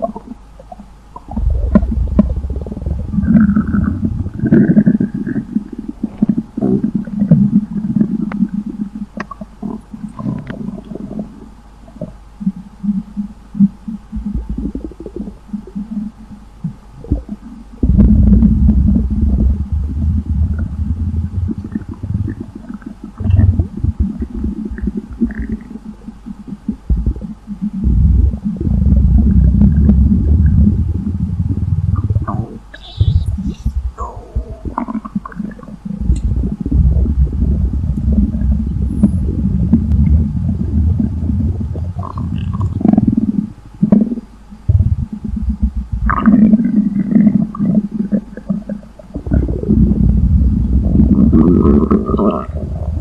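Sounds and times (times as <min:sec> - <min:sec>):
stomach rumbling and gurgling: 0:00.0 - 0:53.0.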